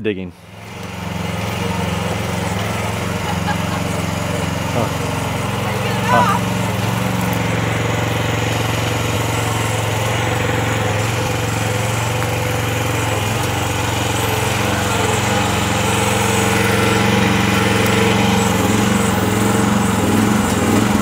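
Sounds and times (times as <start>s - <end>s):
mini excavator engine running: 0.0s - 21.0s.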